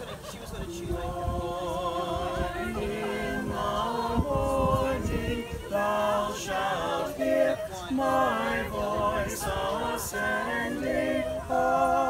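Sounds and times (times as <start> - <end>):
group singing hymn unaccompanied: 0.0 - 12.0.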